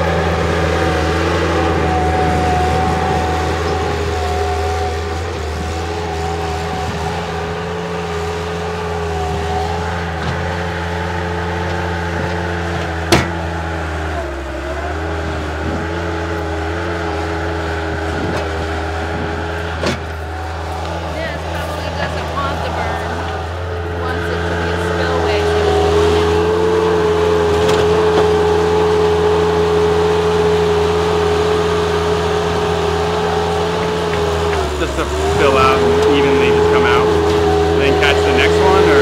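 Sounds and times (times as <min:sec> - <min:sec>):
diesel loader engine whining: 0:00.0 - 0:39.0.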